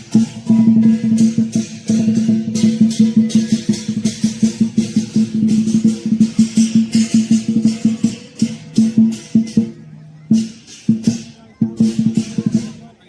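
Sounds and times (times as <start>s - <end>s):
cymbals clashing: 0.0s - 13.0s
drum beating fast rhythm: 0.0s - 13.0s.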